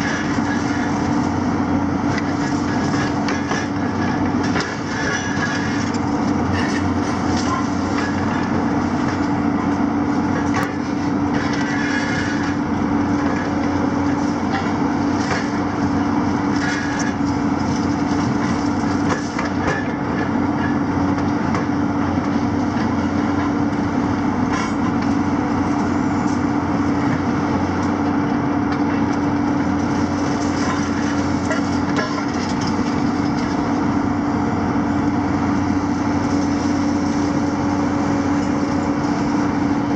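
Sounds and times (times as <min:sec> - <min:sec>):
excavator diesel engines droning: 0:00.0 - 0:39.9.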